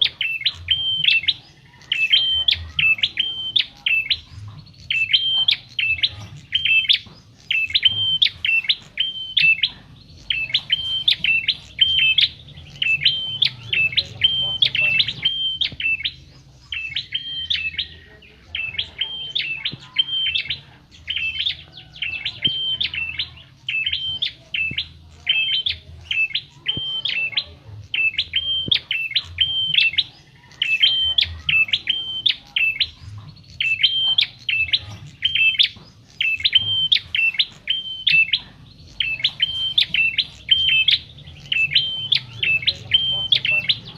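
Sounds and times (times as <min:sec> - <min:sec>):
small bird chirping sharply: 0:00.0 - 0:43.9.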